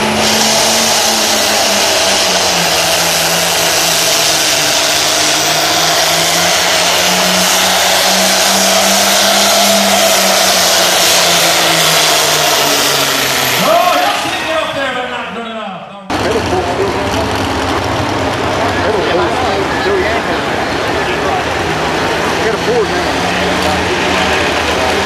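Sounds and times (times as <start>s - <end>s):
diesel tractor engine under full load: 0.0s - 15.4s, 16.0s - 25.0s.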